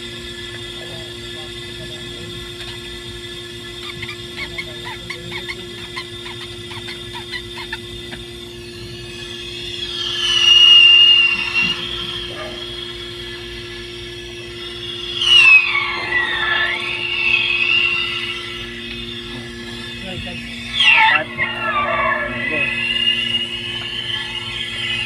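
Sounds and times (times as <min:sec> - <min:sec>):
steady hum: 0:00.0 - 0:25.0
high-pitched machinery squeal: 0:00.8 - 0:25.0.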